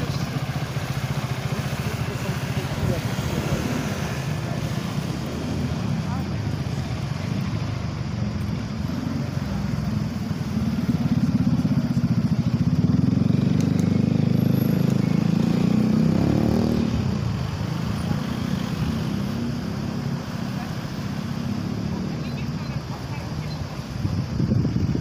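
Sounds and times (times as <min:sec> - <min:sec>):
combustion engine running: 0:00.0 - 0:25.0.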